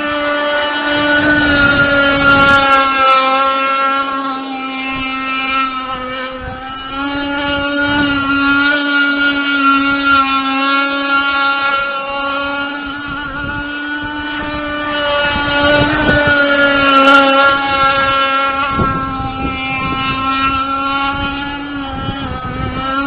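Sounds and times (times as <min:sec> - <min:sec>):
model boat engine high pitch: 0:00.0 - 0:23.0.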